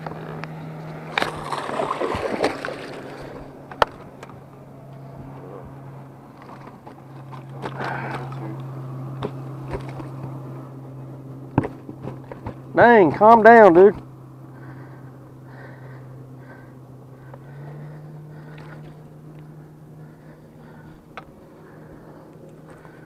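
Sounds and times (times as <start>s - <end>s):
electric trolling motor humming: 0.0s - 23.0s.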